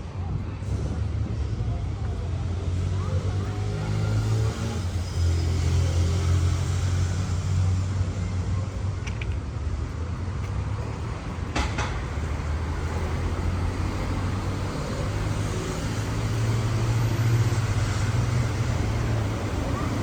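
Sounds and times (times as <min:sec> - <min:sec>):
passing vehicles rumbling: 0:00.0 - 0:20.0.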